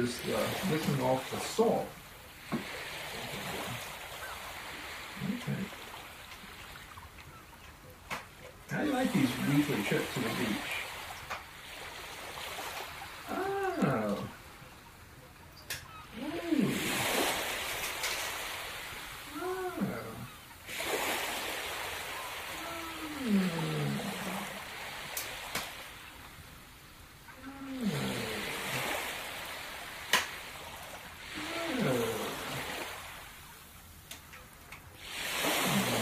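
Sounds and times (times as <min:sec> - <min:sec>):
ocean surf washing in: 0:00.0 - 0:07.4, 0:08.6 - 0:14.8, 0:15.9 - 0:33.8, 0:34.9 - 0:36.0.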